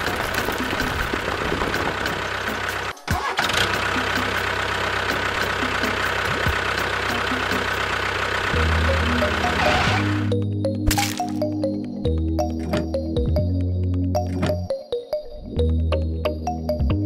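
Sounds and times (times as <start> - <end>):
tractor engine running: 0.0 - 14.7.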